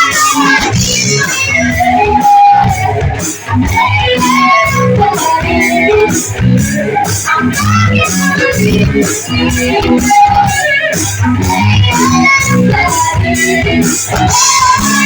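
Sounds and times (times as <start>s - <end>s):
electric guitar strumming: 0.0s - 15.0s
live rock band playing: 0.0s - 15.0s.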